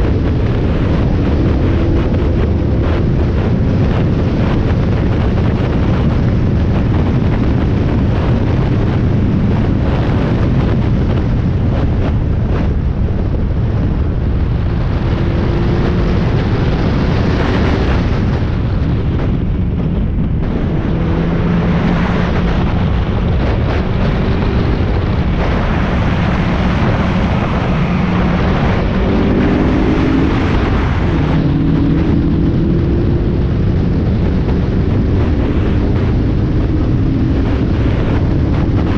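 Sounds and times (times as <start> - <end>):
race car engine running hard: 0.0 - 38.9
wind buffeting: 0.0 - 38.9.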